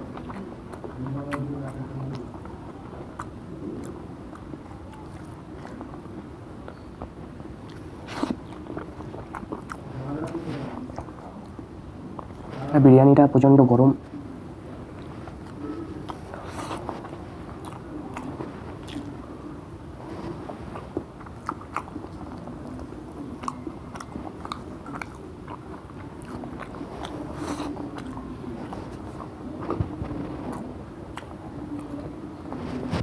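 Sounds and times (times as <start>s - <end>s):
person chewing food: 0.0s - 12.5s, 14.9s - 19.6s, 20.3s - 32.2s.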